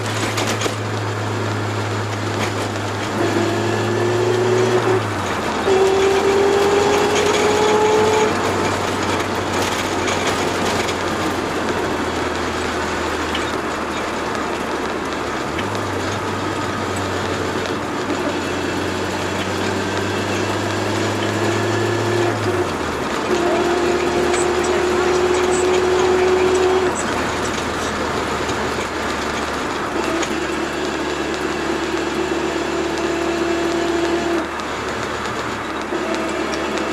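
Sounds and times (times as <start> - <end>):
car engine and road noise: 0.0 - 36.9.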